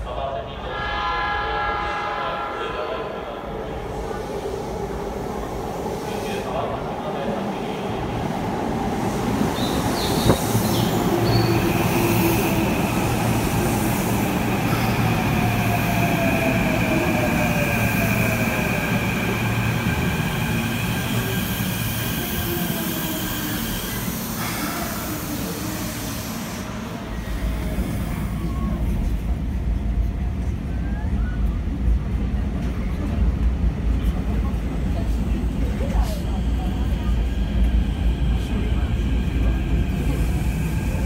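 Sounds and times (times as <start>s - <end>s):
wheels rumbling on rail: 7.9s - 41.0s.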